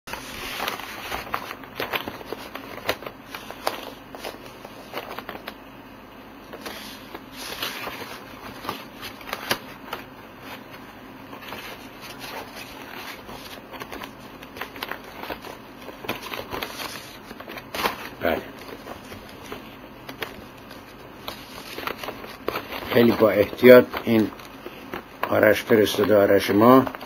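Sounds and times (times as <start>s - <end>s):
paper packaging rustling and crinkling: 0.1s - 5.6s, 6.5s - 27.0s.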